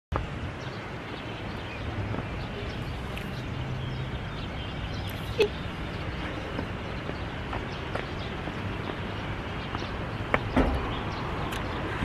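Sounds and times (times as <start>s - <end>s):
steady low city hum: 0.1s - 12.0s
small birds chirping: 0.2s - 12.0s.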